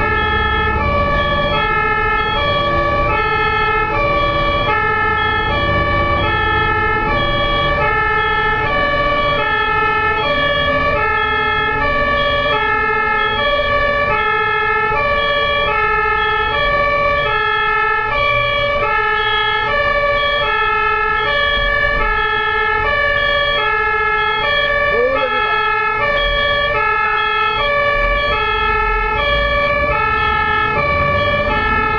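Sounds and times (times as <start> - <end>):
ambulance two-tone siren: 0.0 - 31.9
low road rumble: 0.0 - 31.9.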